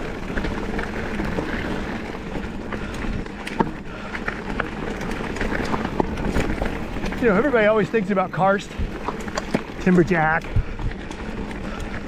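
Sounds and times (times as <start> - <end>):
bike clicking and rattling: 0.0 - 12.0
bike tyres rolling on dirt trail: 0.0 - 12.0.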